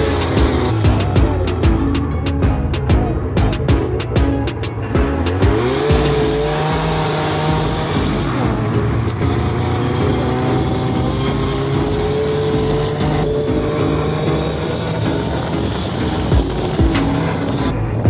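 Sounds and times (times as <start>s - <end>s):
snowmobile engine: 0.0s - 18.0s.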